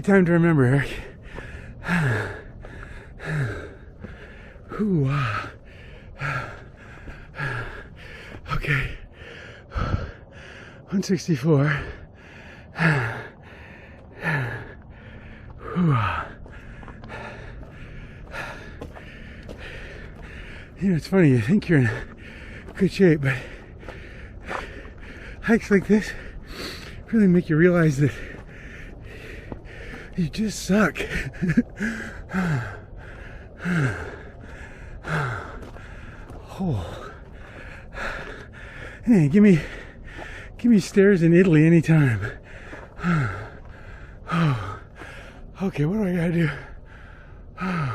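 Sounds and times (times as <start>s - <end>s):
man panting: 0.0s - 47.9s
man gasping for breath: 0.9s - 10.9s, 11.6s - 20.8s, 21.4s - 27.1s, 28.1s - 30.2s, 31.0s - 40.6s, 42.0s - 45.5s, 46.4s - 47.9s.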